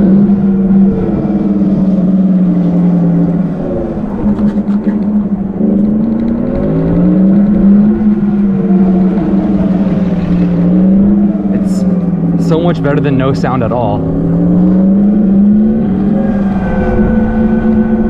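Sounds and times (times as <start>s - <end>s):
electric motorcycle motor hum: 0.0s - 18.0s
wind rumble: 0.0s - 18.0s.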